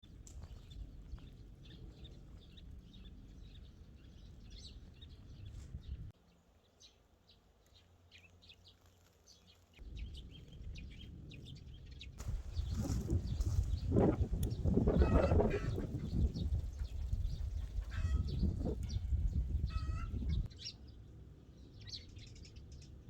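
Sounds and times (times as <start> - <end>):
low wind rumble: 0.0 - 6.2, 9.8 - 23.0
small birds chirping: 0.0 - 23.0.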